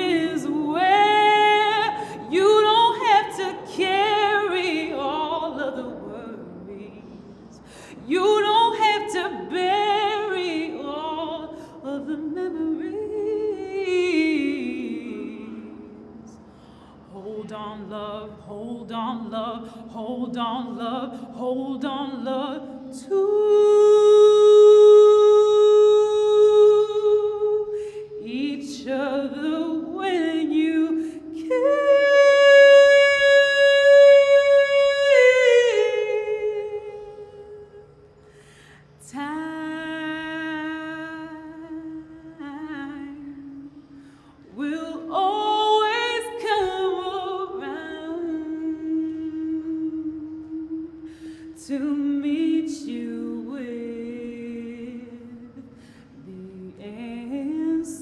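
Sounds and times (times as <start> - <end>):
woman singing unaccompanied: 0.0 - 16.4, 17.0 - 38.0, 38.8 - 58.0.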